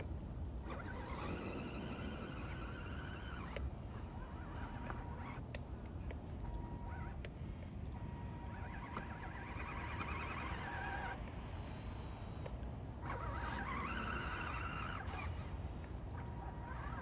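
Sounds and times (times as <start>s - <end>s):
electric motor whining: 0.0s - 5.6s, 6.4s - 17.0s.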